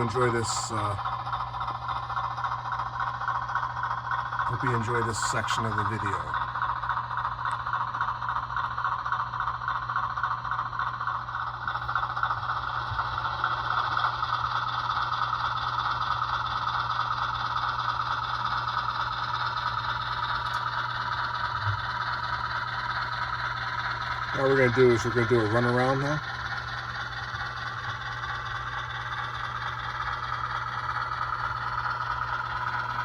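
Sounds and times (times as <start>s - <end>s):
model locomotive rattling: 0.0s - 33.0s.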